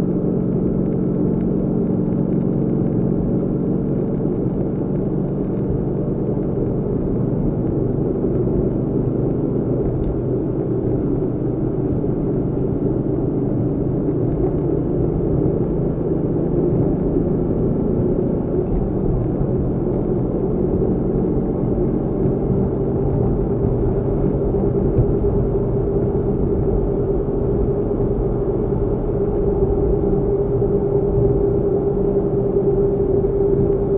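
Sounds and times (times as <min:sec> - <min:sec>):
car engine rumble: 0:00.0 - 0:33.9
road noise: 0:00.0 - 0:33.9.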